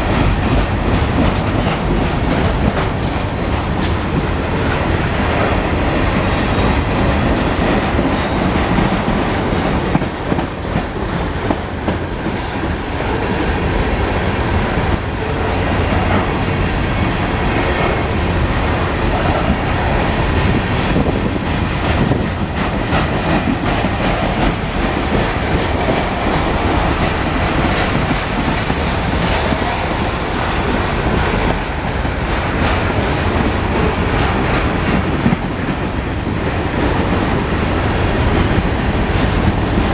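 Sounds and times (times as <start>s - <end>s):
train wheels clattering over rail joints: 0.0s - 13.8s, 14.9s - 39.9s.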